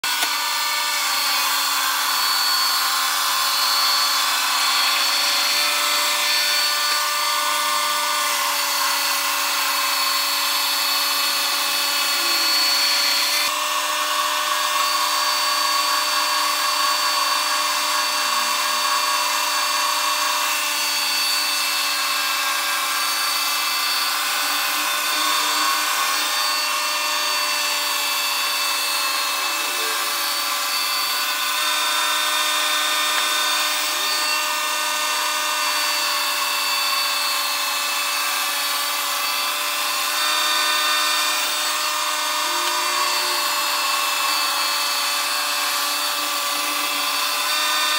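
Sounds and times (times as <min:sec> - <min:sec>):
band sawmill cutting log: 0:00.0 - 0:47.9.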